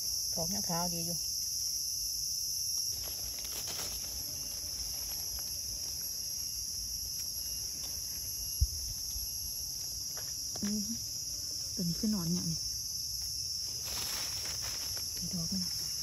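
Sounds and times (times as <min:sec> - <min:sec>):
insects shrilling: 0:00.0 - 0:16.0.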